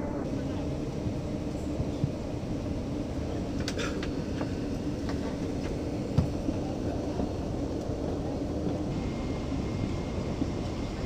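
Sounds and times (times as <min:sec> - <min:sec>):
air conditioning hum: 0:00.0 - 0:11.0.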